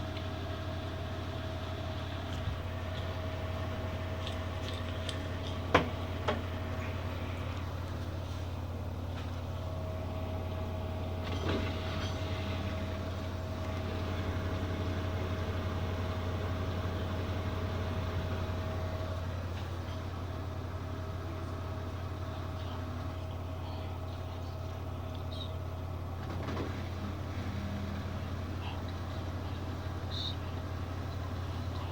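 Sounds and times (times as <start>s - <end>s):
washing machine spinning: 0.0s - 31.9s.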